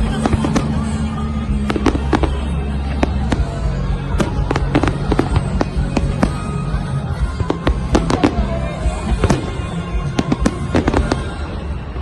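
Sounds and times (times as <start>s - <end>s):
fireworks bangs and crackles: 0.0s - 12.0s
music with steady bass line: 0.0s - 12.0s.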